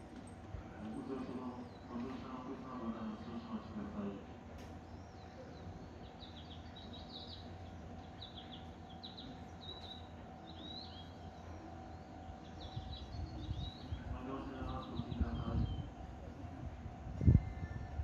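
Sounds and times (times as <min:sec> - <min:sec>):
electric train hum: 0:00.0 - 0:18.0
birds chirping: 0:00.1 - 0:16.6.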